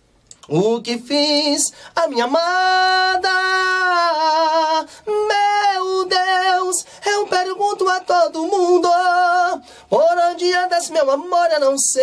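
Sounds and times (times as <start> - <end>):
man singing unaccompanied: 0.3 - 12.0.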